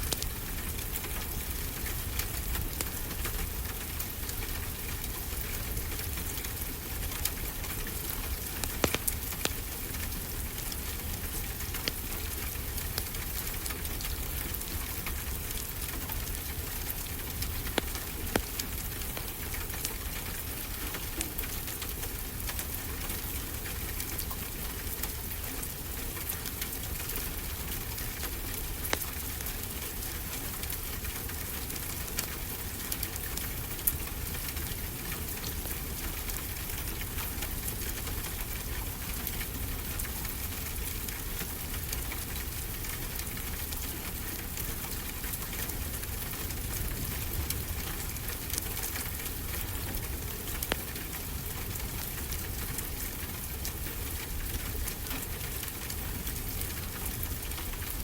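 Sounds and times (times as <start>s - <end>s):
rain falling: 0.0s - 58.0s
wood fire crackling: 0.0s - 58.0s.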